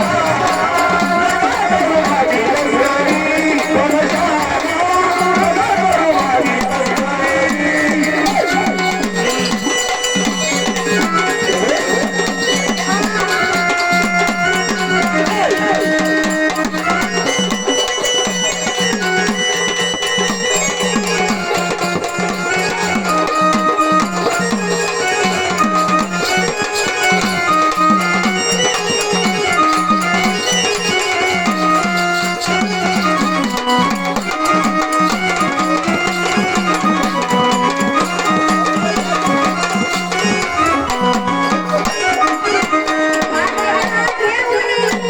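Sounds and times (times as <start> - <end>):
drum beat: 0.0 - 45.0
folk devotional song: 0.0 - 45.0.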